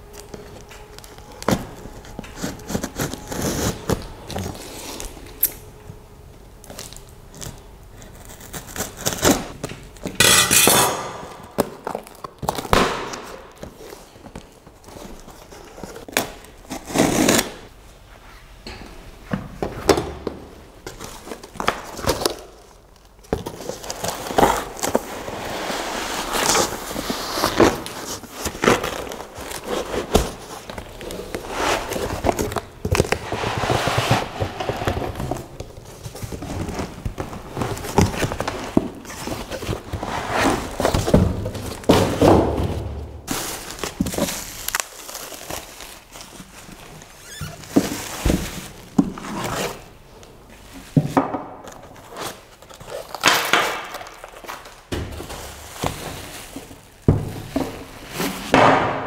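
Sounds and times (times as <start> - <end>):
bubble wrap crinkling: 0.0 - 10.1, 11.1 - 17.8, 20.7 - 51.0, 51.6 - 58.6.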